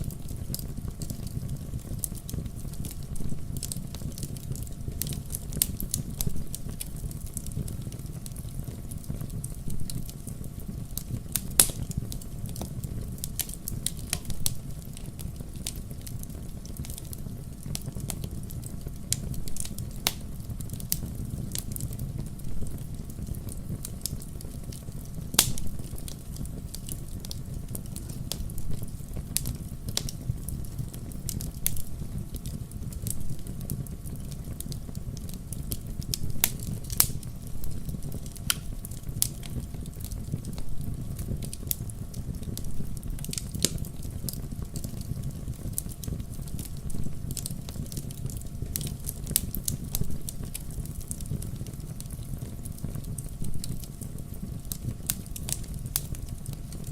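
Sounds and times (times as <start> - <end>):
log fire crackling: 0.0 - 56.9
low rumble of flames: 0.0 - 56.9.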